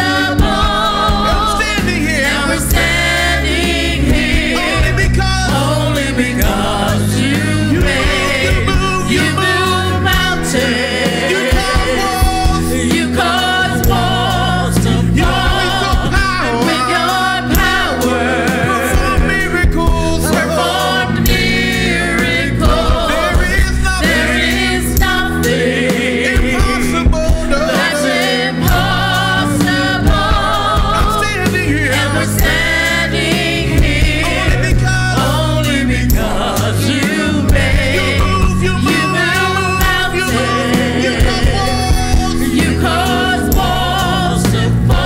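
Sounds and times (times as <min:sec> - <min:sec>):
band accompaniment: 0:00.0 - 0:45.0
gospel singing with vibrato: 0:00.0 - 0:45.0
strong bass line: 0:00.0 - 0:45.0
drum hits: 0:00.2 - 0:45.0.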